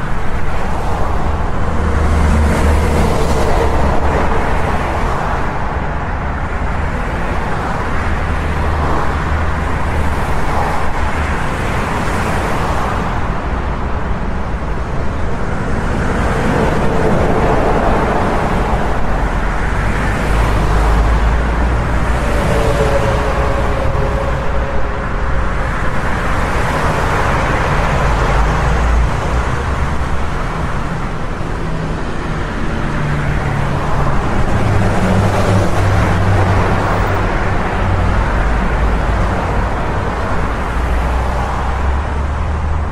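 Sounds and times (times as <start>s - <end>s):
highway traffic noise: 0.0s - 42.9s
low traffic rumble: 0.0s - 42.9s.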